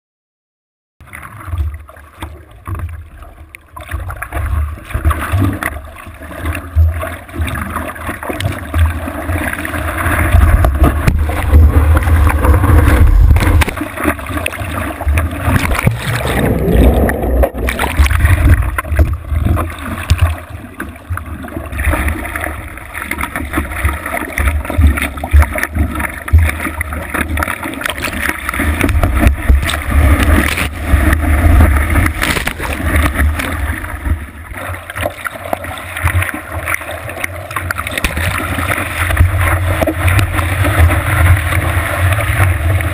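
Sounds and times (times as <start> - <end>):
surf rushing and splashing: 3.8 - 42.9.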